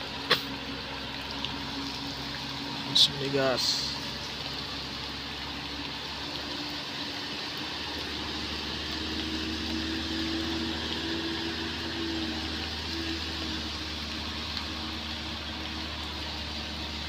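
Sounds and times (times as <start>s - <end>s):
diesel truck engine pulling uphill: 0.0s - 17.0s
rain and wet road hiss: 0.0s - 17.0s.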